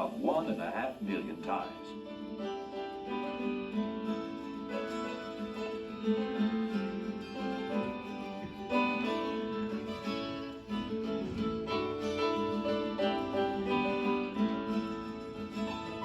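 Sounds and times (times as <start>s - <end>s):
acoustic guitar plucked and strummed: 0.0s - 16.0s.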